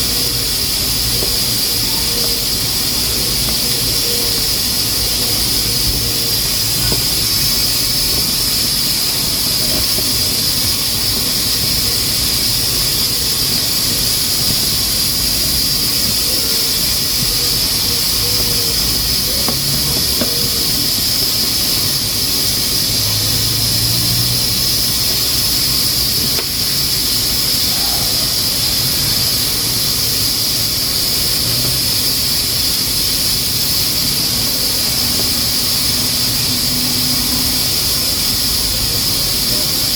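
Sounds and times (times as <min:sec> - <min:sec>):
pressure cooker hissing: 0:00.0 - 0:39.9.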